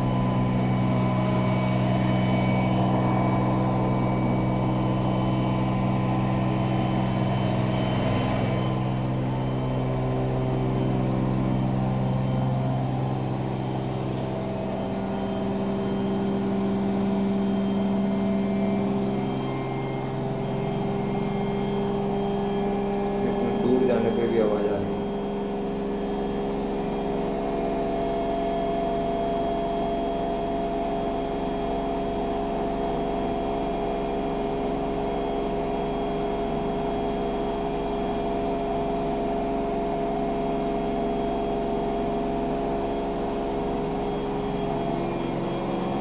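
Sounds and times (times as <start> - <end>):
washing machine motor hum: 0.0 - 46.0.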